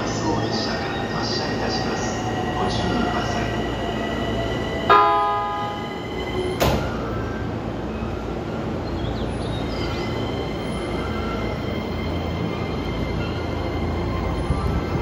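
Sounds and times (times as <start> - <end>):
train humming: 0.0 - 15.0.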